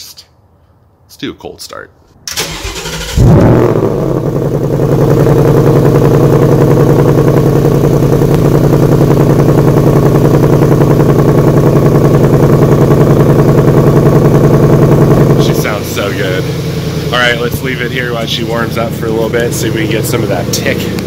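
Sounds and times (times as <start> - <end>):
car engine idling: 2.3 - 21.0.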